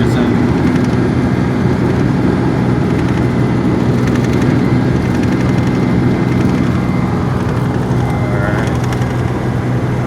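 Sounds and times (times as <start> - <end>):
road noise: 0.0 - 10.0
truck engine droning: 0.0 - 10.0.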